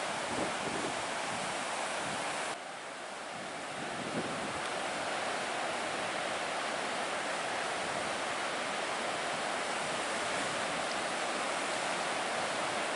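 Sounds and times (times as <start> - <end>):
ocean surf breaking: 0.0 - 12.9.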